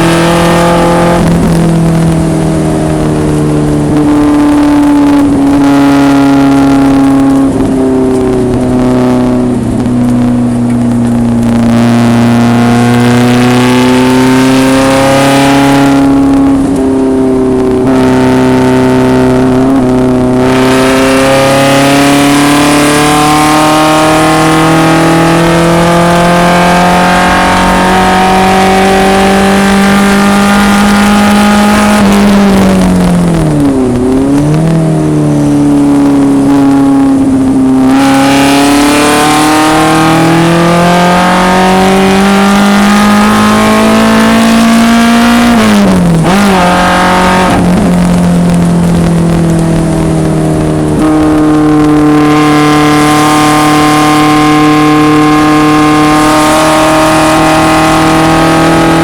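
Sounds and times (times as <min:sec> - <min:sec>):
racecar engine revving: 0:00.0 - 0:59.0.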